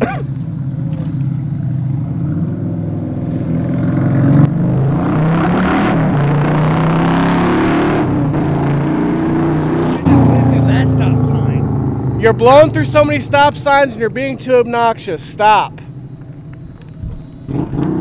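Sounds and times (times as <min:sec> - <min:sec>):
motorcycle engine revving: 0:00.3 - 0:13.7, 0:15.8 - 0:18.0.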